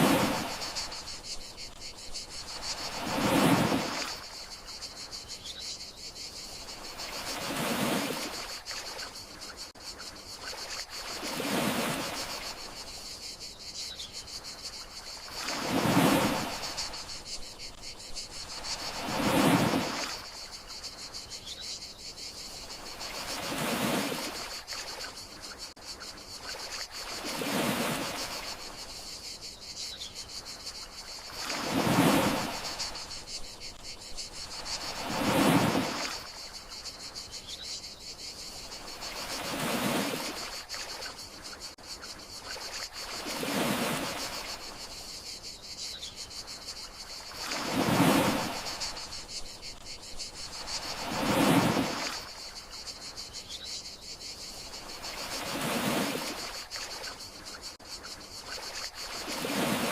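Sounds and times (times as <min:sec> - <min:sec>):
gentle sea waves washing ashore: 0:00.0 - 0:05.2, 0:06.4 - 0:13.0, 0:14.5 - 0:21.2, 0:22.5 - 0:29.1, 0:30.5 - 0:37.0, 0:38.4 - 0:41.7, 0:42.4 - 0:45.2, 0:46.8 - 0:53.1, 0:54.5 - 0:59.9
crickets chirring: 0:00.0 - 0:59.9.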